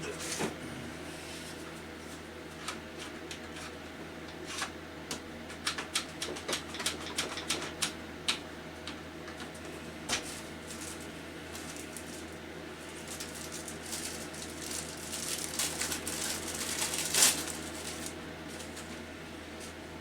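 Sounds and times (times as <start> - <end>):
fan heater hum: 0.0 - 20.0.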